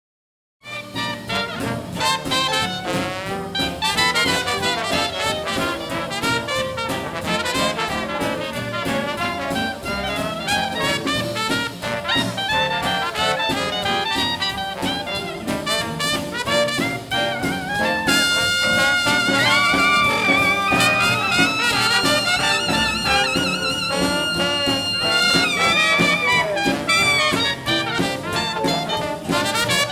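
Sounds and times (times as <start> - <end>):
jazz band playing: 0.6 - 29.9.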